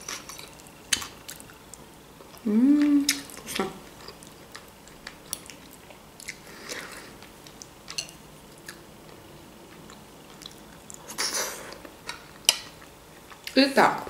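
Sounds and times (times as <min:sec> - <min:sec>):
chewing and wet mouth sounds: 0:00.0 - 0:13.6.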